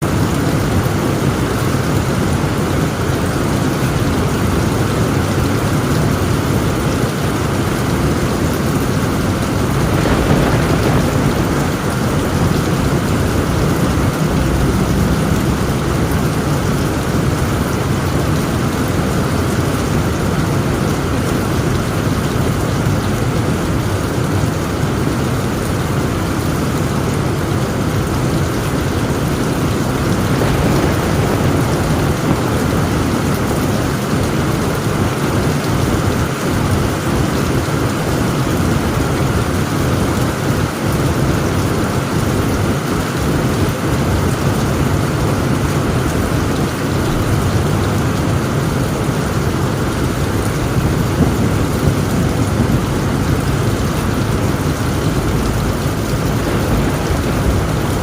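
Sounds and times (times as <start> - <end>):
heavy rain on tent roof: 0.0 - 58.0
thunder rumbling: 0.0 - 58.0.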